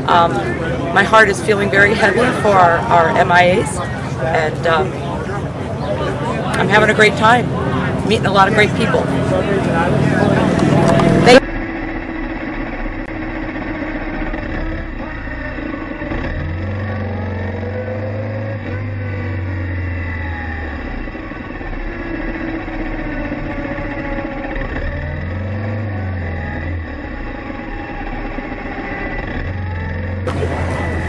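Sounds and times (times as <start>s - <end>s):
motorcycles riding past: 0.0s - 31.0s.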